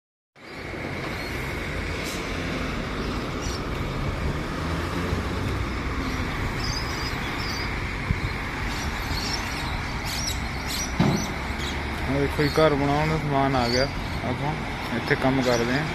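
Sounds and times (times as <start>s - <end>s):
diesel truck engine running: 0.5s - 15.9s.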